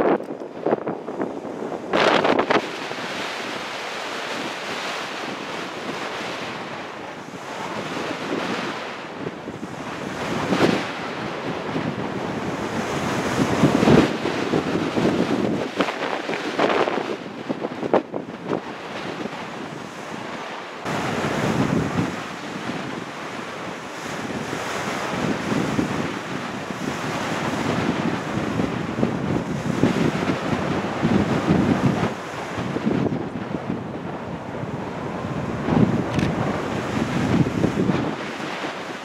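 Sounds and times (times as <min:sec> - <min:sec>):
gusty wind buffeting microphone: 0:00.0 - 0:39.0.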